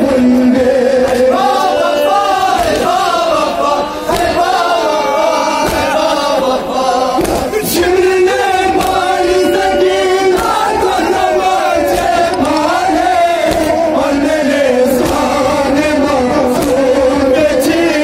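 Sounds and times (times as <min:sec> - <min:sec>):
men chanting a lament: 0:00.0 - 0:18.0
person singing into a microphone: 0:00.0 - 0:18.0.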